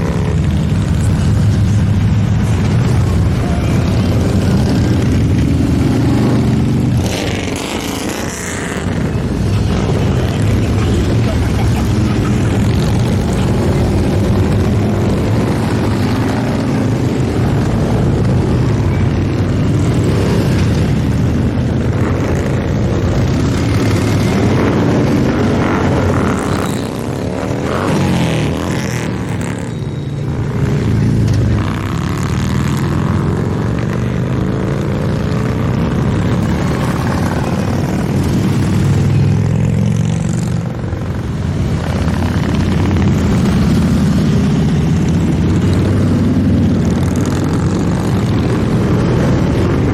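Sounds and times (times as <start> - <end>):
motorcycles riding past: 0.0 - 49.9.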